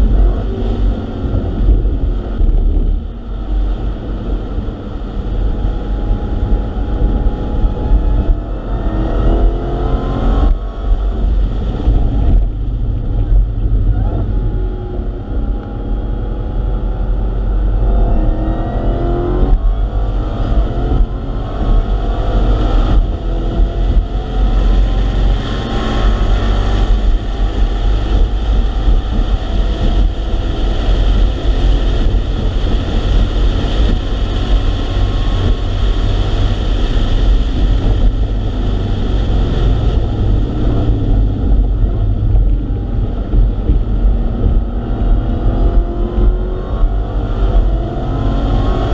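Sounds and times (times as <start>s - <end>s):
car engine at full throttle: 0.0s - 48.9s
wind and road noise: 0.0s - 48.9s.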